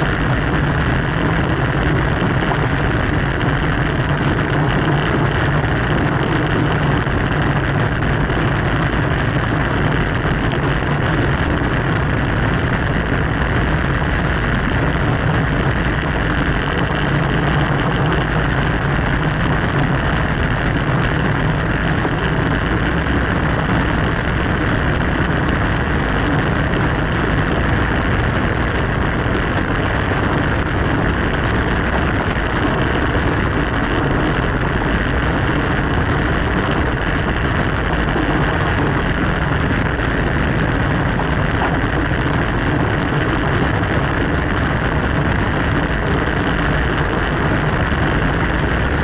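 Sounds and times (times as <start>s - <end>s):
road noise: 0.0s - 49.0s
wind rushing over microphone: 0.0s - 49.0s.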